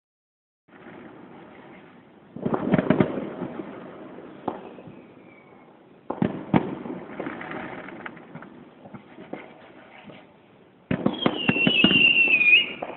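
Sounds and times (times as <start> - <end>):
fireworks bangs echoing: 0.7 - 5.2, 6.0 - 10.2, 10.8 - 12.9
fireworks crackling: 0.7 - 12.9.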